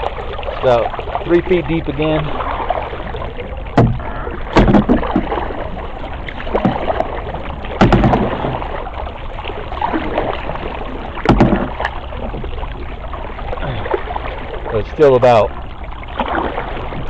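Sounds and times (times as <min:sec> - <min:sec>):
canoe paddle strokes: 0:00.0 - 0:17.0.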